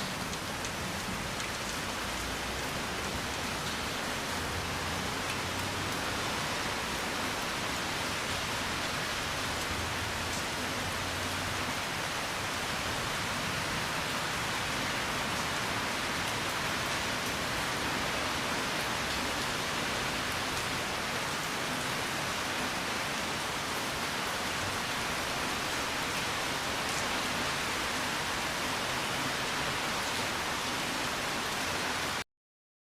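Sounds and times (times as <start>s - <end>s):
steady rain hiss: 0.0s - 32.2s.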